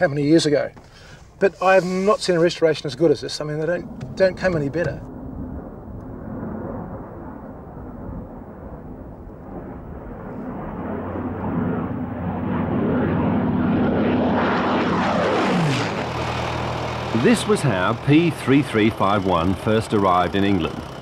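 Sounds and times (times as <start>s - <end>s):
propeller plane engine flypast: 1.9s - 21.0s.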